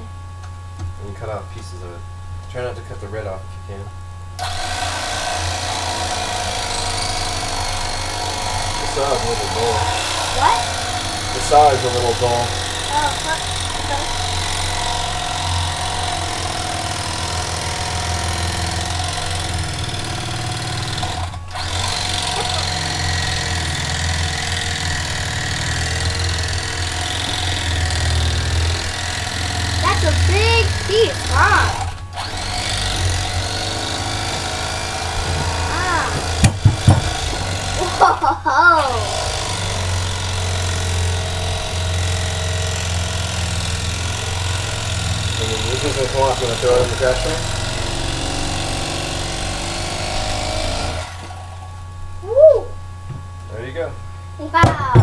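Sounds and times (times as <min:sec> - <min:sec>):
electric carving knife sawing: 0:04.4 - 0:52.0.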